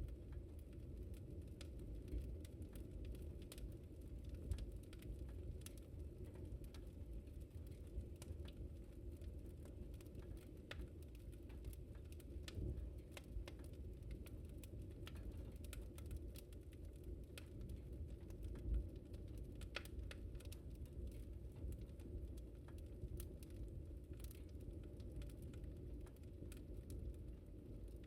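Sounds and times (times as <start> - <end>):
low rumble of flames: 0.0 - 28.0
fire pops and snaps: 0.1 - 28.0.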